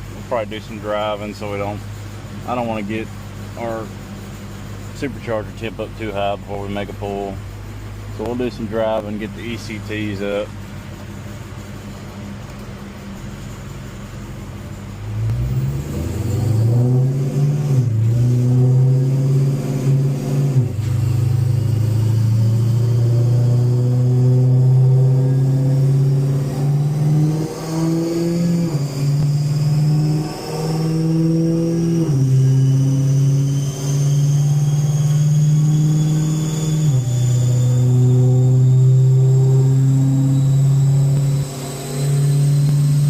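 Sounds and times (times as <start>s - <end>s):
car engine revving: 0.0s - 43.0s
supercharger whine: 0.0s - 43.0s.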